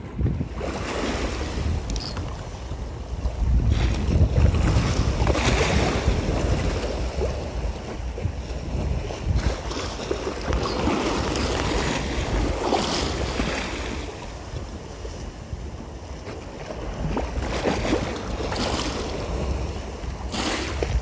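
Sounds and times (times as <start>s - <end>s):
waves lapping: 0.0s - 21.0s
wind buffeting microphone: 0.0s - 21.0s.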